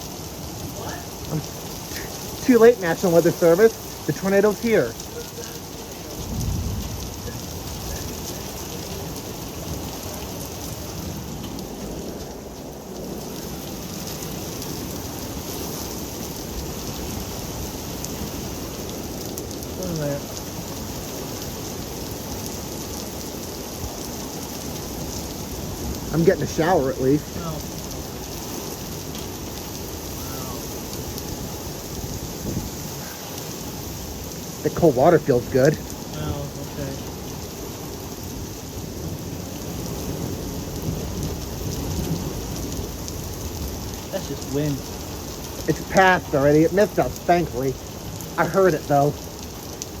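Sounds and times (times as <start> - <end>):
heavy rain pouring: 0.0 - 50.0
strong wind: 4.9 - 47.2.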